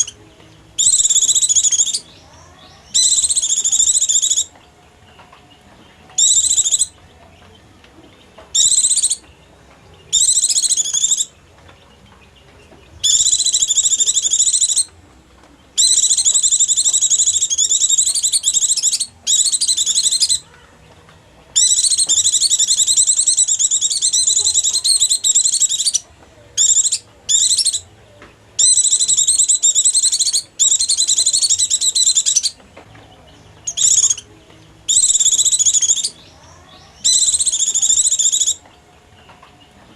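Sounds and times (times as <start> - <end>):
bird twittering trills: 0.0 - 4.6, 6.1 - 7.0, 8.5 - 15.0, 15.7 - 20.7, 21.5 - 27.9, 28.6 - 38.7.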